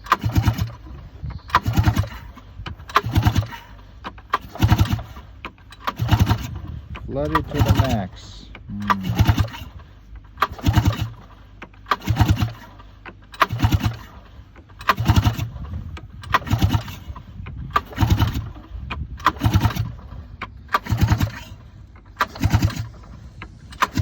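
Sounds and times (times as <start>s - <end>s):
snowmobile engine chugging: 0.0s - 11.3s, 11.9s - 12.8s, 13.4s - 24.0s
pull-start rope pulls: 0.0s - 24.0s.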